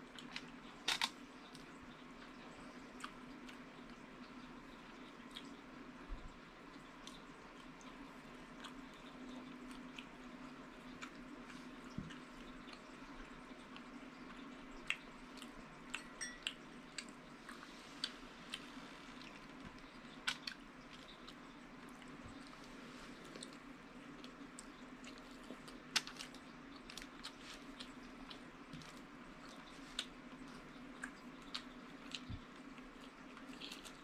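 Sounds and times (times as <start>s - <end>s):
steady low hum: 0.0s - 34.0s
chewing with wet mouth clicks: 0.1s - 22.6s, 23.3s - 34.0s.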